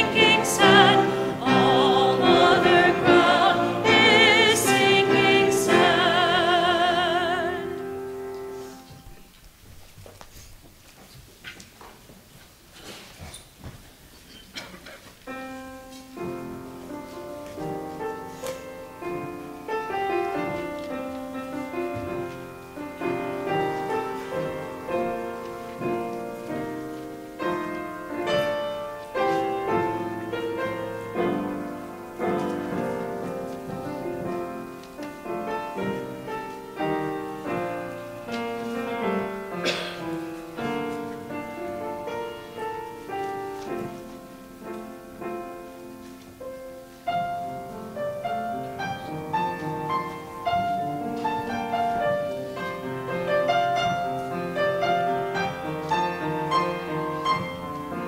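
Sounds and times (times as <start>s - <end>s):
slow solo piano piece: 0.0s - 9.4s, 14.3s - 58.0s.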